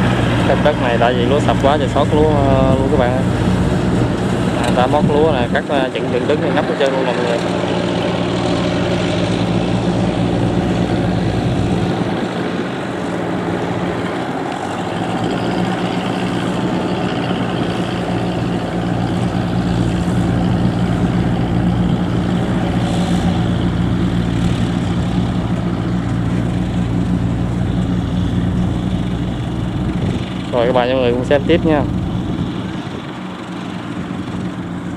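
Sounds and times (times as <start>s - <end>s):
diesel engine hum: 0.0s - 34.9s
harvester machinery clatter: 0.0s - 34.9s.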